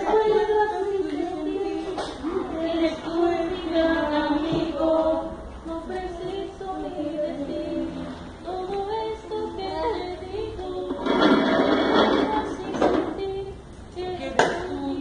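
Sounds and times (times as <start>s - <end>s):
women and children singing: 0.0s - 15.0s.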